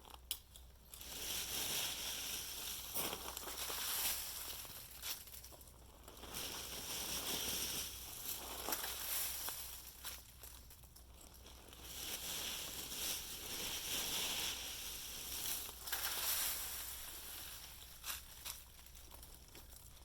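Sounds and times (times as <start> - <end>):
dry leaves crackling and rustling: 0.9 - 20.0.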